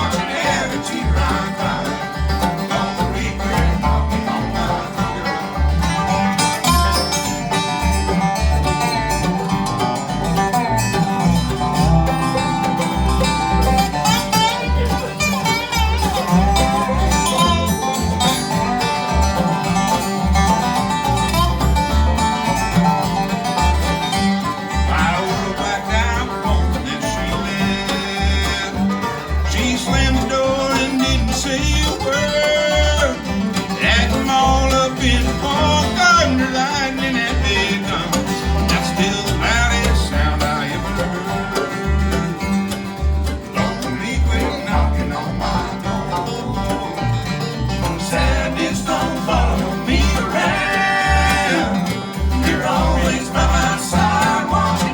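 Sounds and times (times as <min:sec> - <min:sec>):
bass thumping: 0:00.0 - 0:54.9
bluegrass band playing: 0:00.0 - 0:54.9.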